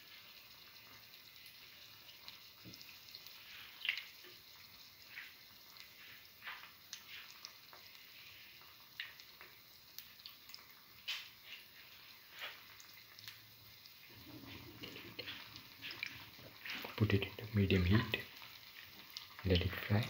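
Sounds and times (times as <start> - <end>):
egg sizzling in oil: 0.0 - 20.0.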